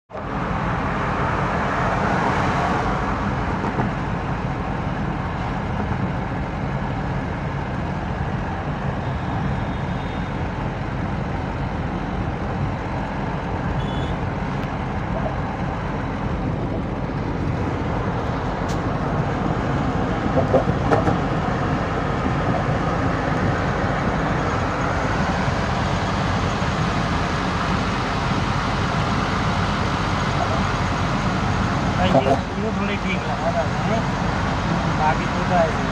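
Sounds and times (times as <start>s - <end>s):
road traffic passing: 0.1s - 35.9s.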